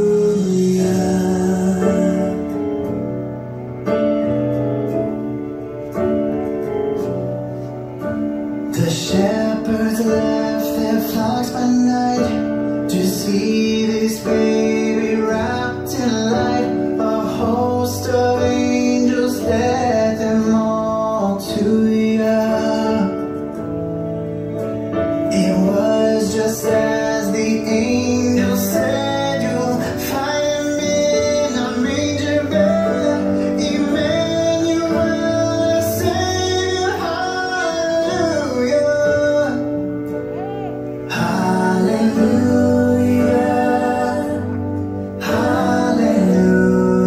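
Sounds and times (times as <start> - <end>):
guitar accompaniment: 0.0 - 47.0.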